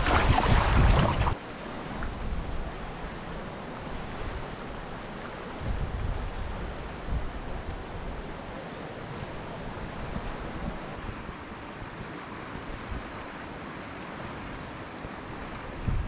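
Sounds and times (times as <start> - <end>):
wind rumbling on microphone: 0.0 - 13.5, 14.4 - 16.0
river water rushing: 0.0 - 16.0.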